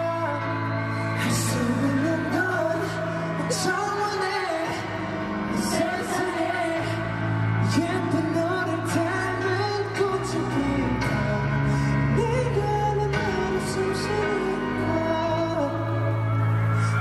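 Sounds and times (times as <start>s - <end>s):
live pop ballad: 0.0s - 17.0s
person singing: 0.0s - 17.0s.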